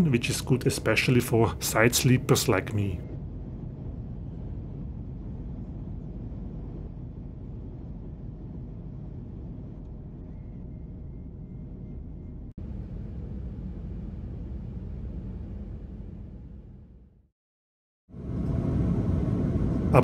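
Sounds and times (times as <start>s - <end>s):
airliner cabin engine rumble: 0.0s - 11.4s, 12.4s - 17.0s, 18.2s - 20.0s.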